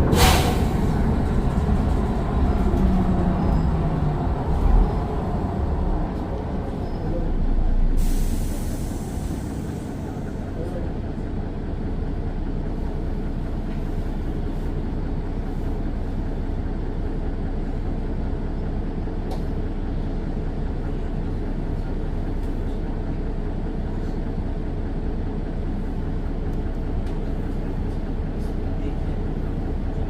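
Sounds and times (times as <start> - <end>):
diesel bus engine rumble: 0.0 - 30.0
road noise: 0.0 - 30.0.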